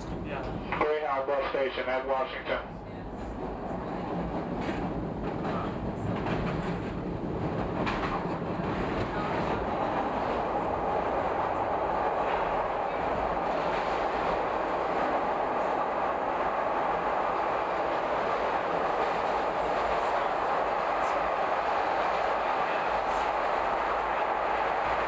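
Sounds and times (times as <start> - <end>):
train wheels on rails: 3.1 - 25.0.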